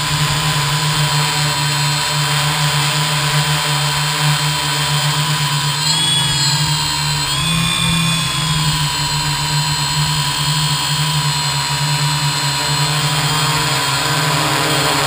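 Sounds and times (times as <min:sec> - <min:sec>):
drone motors humming and whining: 0:00.0 - 0:15.0.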